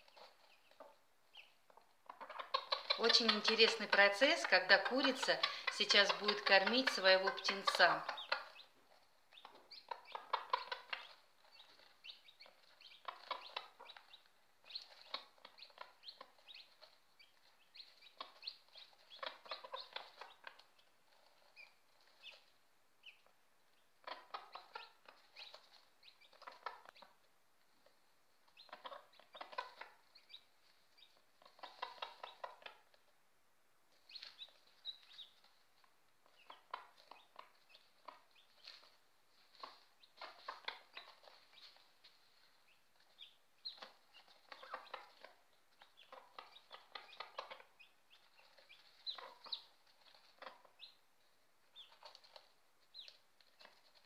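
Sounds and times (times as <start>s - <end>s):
hen clucking: 0.0s - 33.2s, 33.9s - 54.0s.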